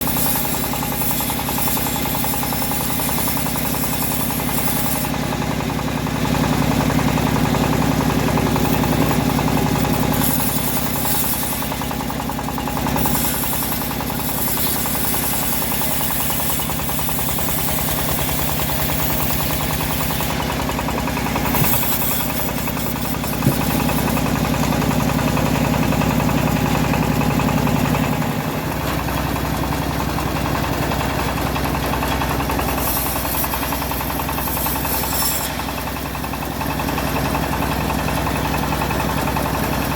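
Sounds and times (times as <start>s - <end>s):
bandsaw mill running: 0.0s - 39.9s.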